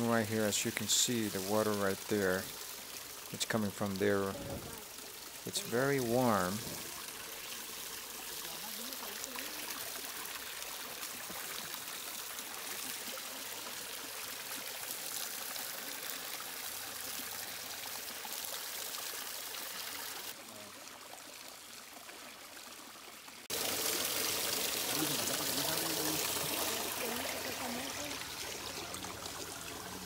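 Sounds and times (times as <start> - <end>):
spring water trickling: 0.0 - 30.0.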